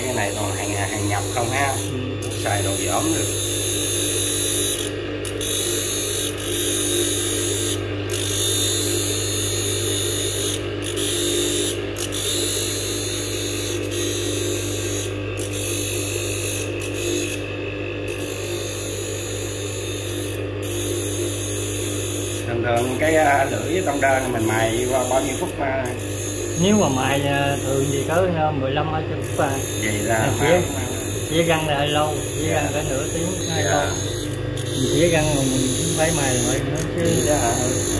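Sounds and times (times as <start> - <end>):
grinding machine motor hum: 0.0 - 37.9.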